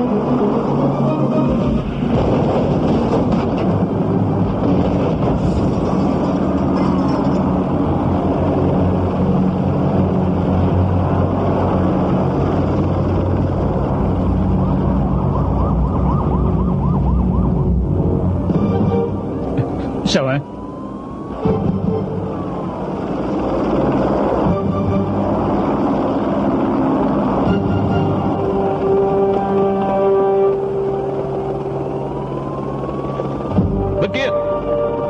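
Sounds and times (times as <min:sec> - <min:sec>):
sirens wailing: 0:00.0 - 0:35.0
vehicles running: 0:00.0 - 0:35.0.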